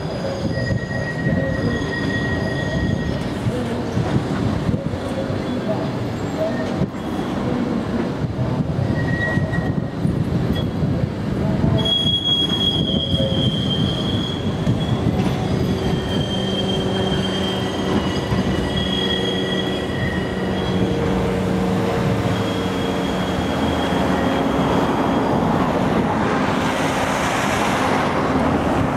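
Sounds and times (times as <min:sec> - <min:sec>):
tram rumble: 0:00.0 - 0:28.9
tram wheels squealing on rails: 0:00.0 - 0:28.9.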